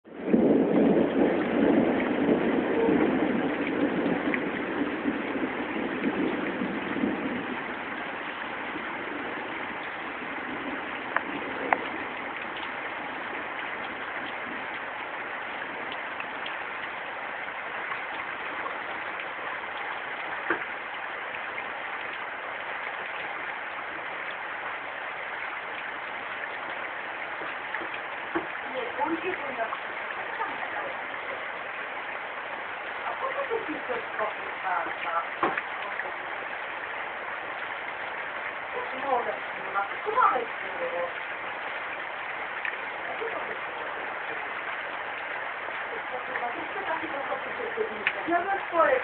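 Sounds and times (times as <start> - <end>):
low thunder rumble: 0.0 - 49.0
steady rain: 0.0 - 49.0
sharp drips: 0.2 - 49.0.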